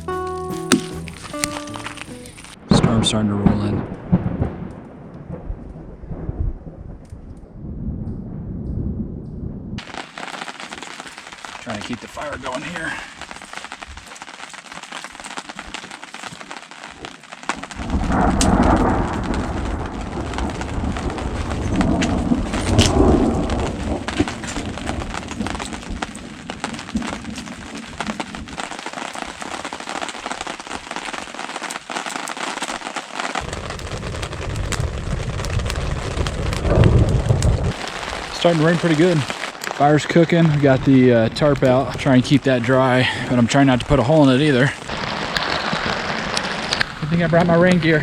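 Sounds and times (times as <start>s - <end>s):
rain falling: 0.0s - 8.7s, 9.8s - 48.0s
thunder rumbling: 1.0s - 14.0s, 17.6s - 31.1s, 32.7s - 48.0s.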